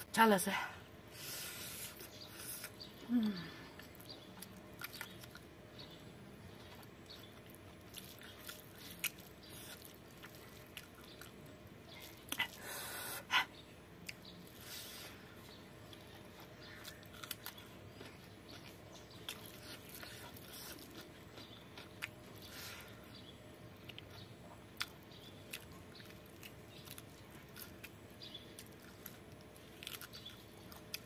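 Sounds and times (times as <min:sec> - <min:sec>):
person chewing food: 0:01.1 - 0:13.0, 0:13.9 - 0:31.0.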